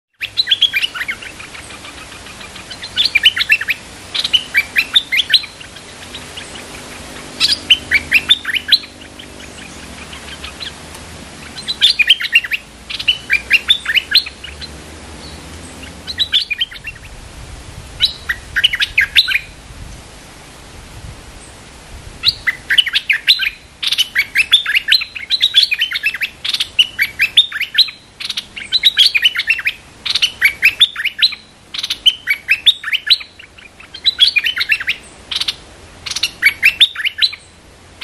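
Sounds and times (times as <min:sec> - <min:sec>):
bird chirping bubbly song: 0:00.1 - 0:10.8, 0:11.4 - 0:17.1, 0:18.0 - 0:19.5, 0:22.2 - 0:37.5.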